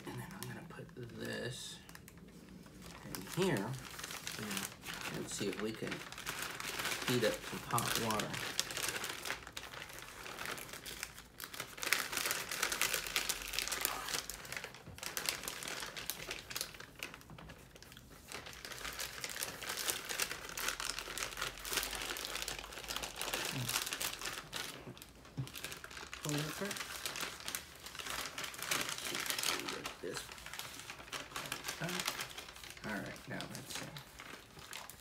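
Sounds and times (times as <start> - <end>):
plastic packaging crinkling: 0.0 - 35.0.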